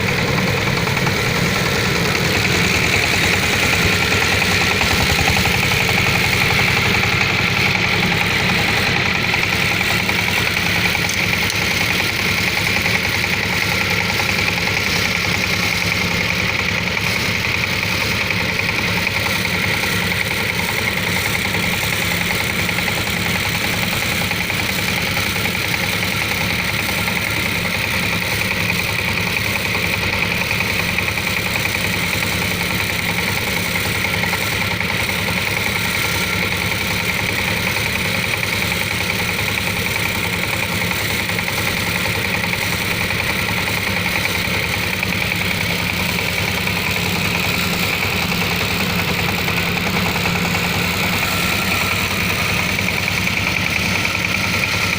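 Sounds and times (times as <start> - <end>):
garden tiller engine running: 0.0 - 54.9.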